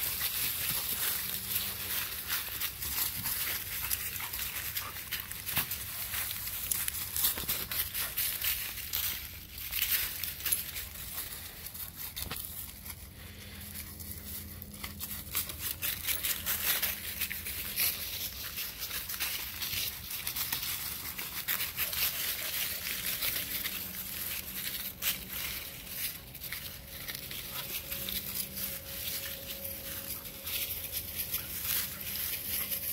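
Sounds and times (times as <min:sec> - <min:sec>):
dry leaves crunching underfoot: 0:00.0 - 0:32.9.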